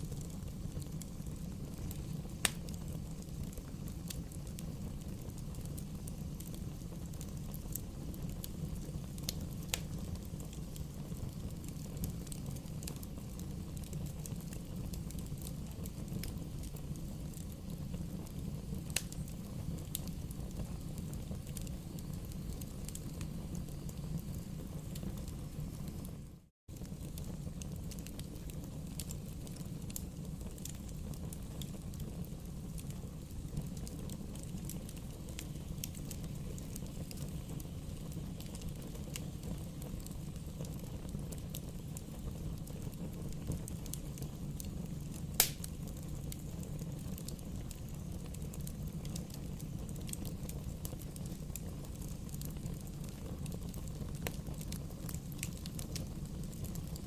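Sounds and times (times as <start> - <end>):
bonfire flames rumbling: 0.0 - 57.0
fire crackling and popping: 0.0 - 57.0.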